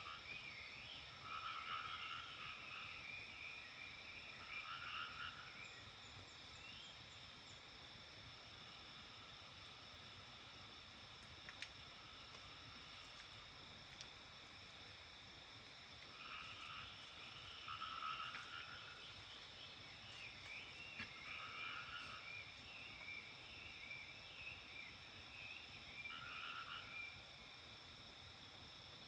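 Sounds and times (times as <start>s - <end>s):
frogs croaking: 0.0s - 29.0s.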